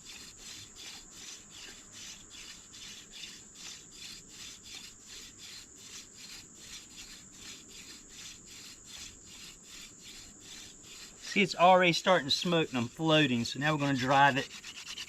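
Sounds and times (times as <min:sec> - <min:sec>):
wooden spindle rubbing on board: 0:00.0 - 0:15.0.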